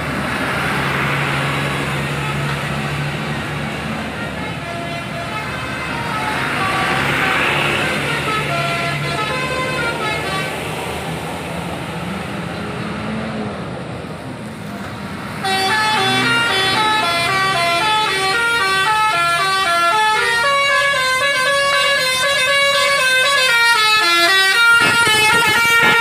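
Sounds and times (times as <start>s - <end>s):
bus engines running: 0.0s - 26.0s
musical bus horns playing tunes: 0.7s - 11.2s, 15.2s - 26.0s.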